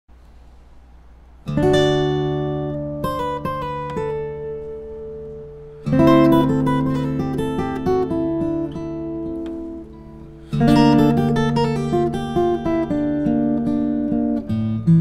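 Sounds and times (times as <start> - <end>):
acoustic guitar strummed chords: 1.4 - 15.0
picked guitar notes: 1.4 - 15.0.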